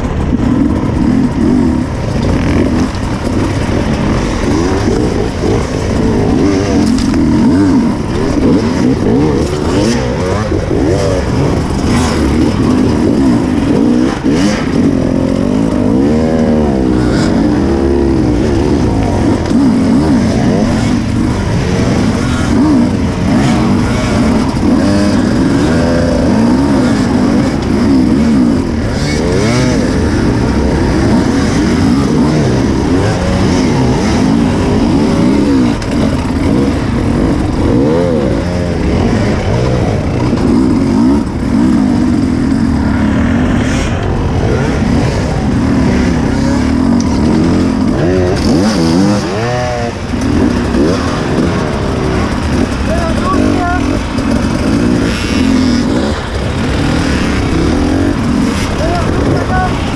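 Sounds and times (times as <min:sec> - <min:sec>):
dirt bikes revving: 0:00.0 - 0:59.9.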